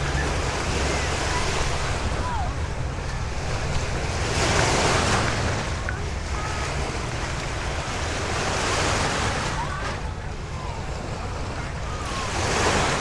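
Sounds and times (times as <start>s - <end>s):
lake waves washing on shore: 0.0s - 13.0s.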